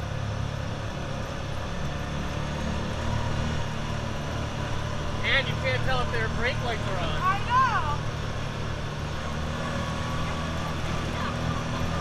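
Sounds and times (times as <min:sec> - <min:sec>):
atv engine droning: 0:00.0 - 0:12.0.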